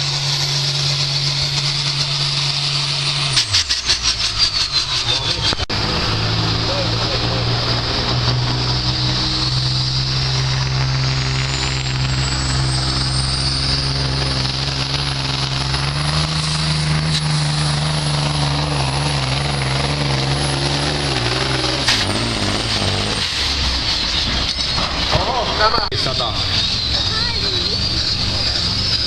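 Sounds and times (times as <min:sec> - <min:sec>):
diesel truck engine under load: 0:00.0 - 0:29.0.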